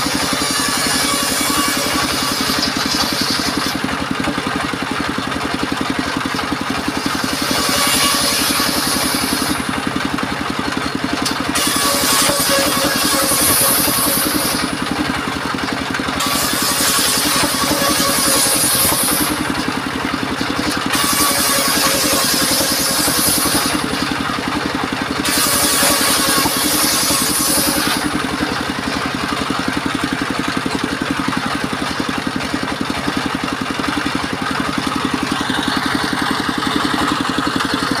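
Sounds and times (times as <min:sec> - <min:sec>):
saw blade cutting timber: 0:00.0 - 0:38.0
sawmill engine running: 0:00.0 - 0:38.0.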